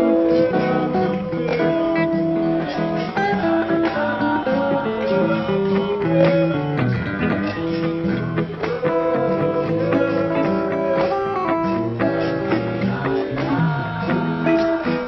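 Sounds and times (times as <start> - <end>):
plucked blues guitar: 0.0 - 15.0.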